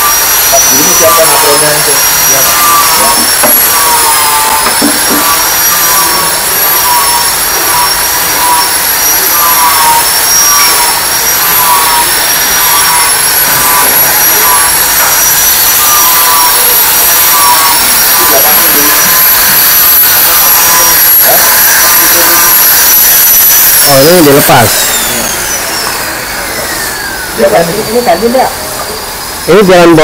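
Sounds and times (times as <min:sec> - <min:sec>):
workshop machinery whining: 0:00.0 - 0:30.0.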